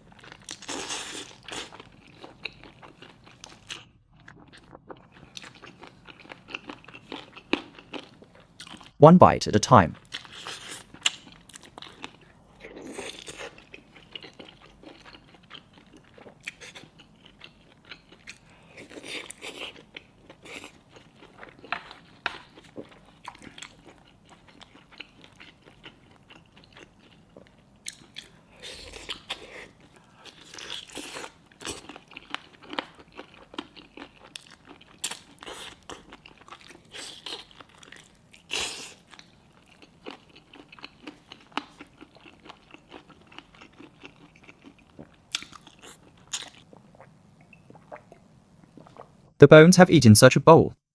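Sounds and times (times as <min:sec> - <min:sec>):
close chewing and crunching: 0:00.0 - 0:09.0, 0:10.0 - 0:49.1.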